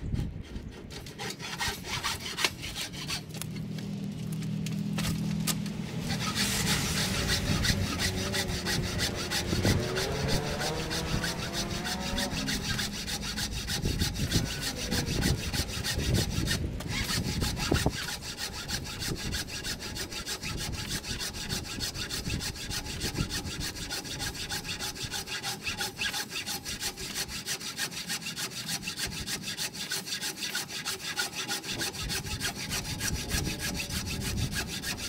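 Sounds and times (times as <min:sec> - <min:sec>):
bow saw cutting wood: 0:00.0 - 0:03.8, 0:04.4 - 0:35.0.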